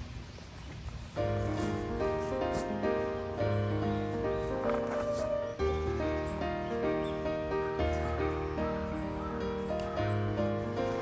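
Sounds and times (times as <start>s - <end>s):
faint low background noise: 0.0s - 11.0s
background music with held notes: 1.2s - 11.0s.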